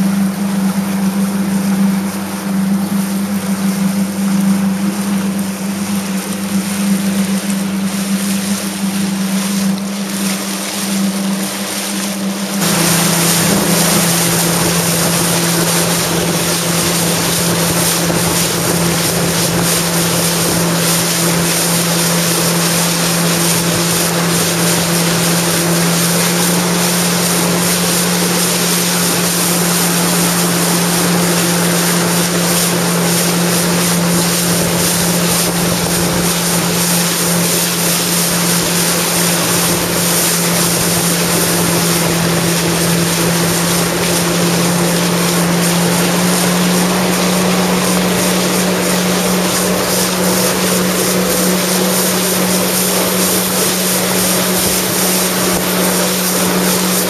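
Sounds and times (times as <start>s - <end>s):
jet ski engine droning: 0.0s - 57.0s
water rushing: 0.0s - 57.0s
wind: 0.0s - 57.0s.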